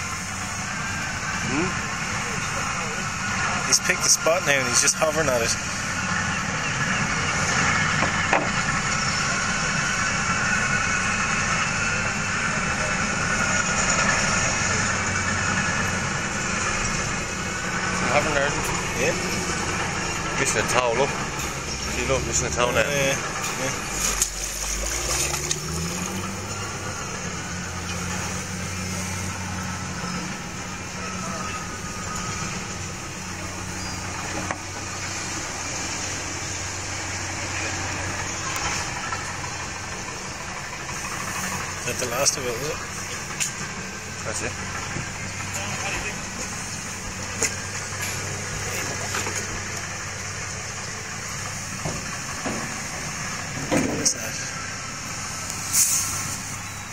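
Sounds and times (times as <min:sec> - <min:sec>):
engine humming steadily: 0:00.0 - 0:56.9.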